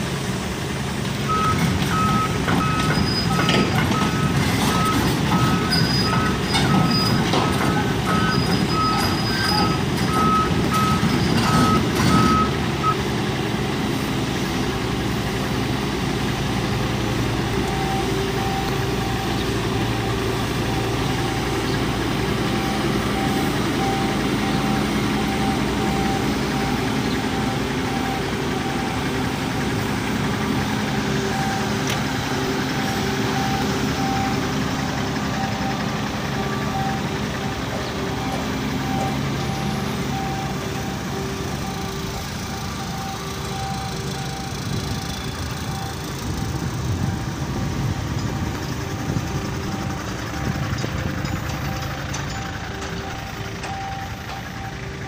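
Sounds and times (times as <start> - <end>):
heavy diesel machinery running: 0.0 - 55.0
low repeating backup beep: 1.2 - 13.0, 17.4 - 55.0.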